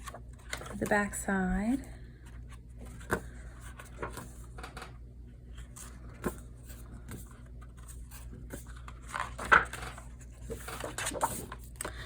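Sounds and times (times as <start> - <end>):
paper pages turning: 0.0 - 0.9, 2.3 - 4.7, 5.5 - 12.0.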